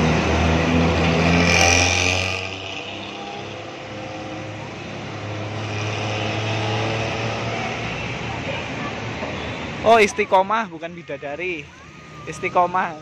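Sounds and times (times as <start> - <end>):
street traffic on wet road: 0.0 - 13.0.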